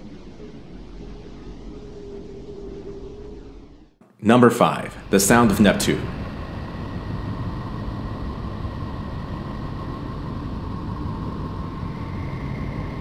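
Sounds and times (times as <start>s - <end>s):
low rushing noise: 0.0s - 13.0s.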